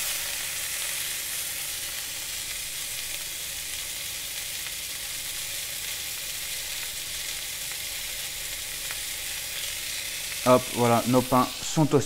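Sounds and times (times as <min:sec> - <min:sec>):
burger patty sizzling in a frying pan: 0:00.0 - 0:12.0.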